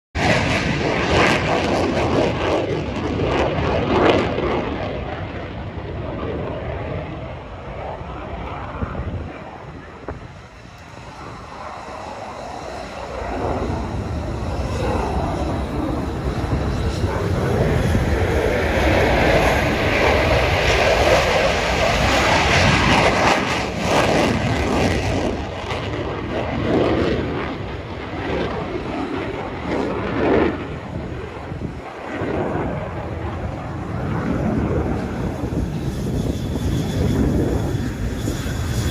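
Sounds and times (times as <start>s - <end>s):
jet engine roar: 0.1s - 38.9s.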